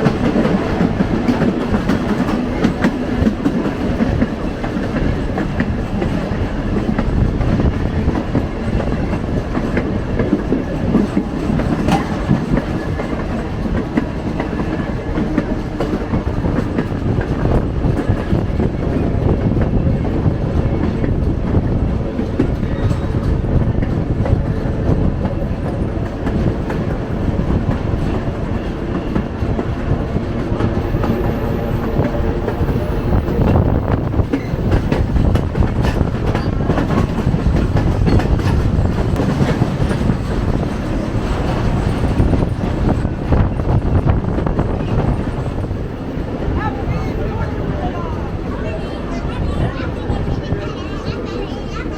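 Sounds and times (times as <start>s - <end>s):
wheels clacking over rail joints: 0.0s - 19.0s, 22.0s - 46.1s
train wheels rumbling on rail: 0.0s - 51.9s.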